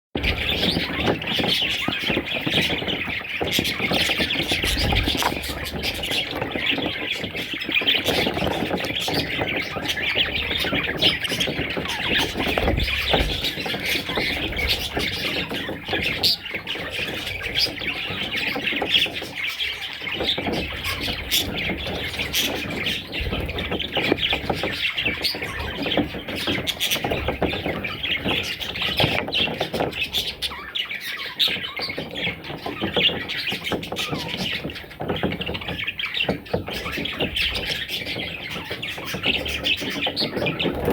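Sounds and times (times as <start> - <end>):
budgerigars chattering: 0.2 - 40.9.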